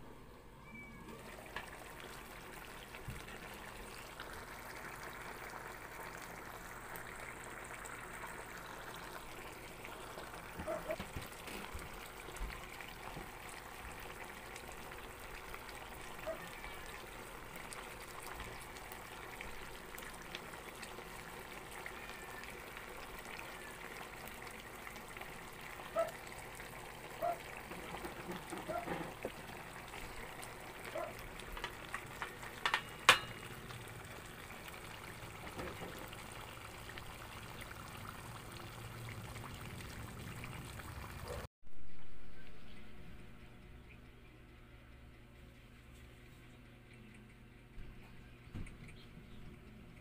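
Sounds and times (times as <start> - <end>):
fish simmering in sauce: 0.8 - 41.5.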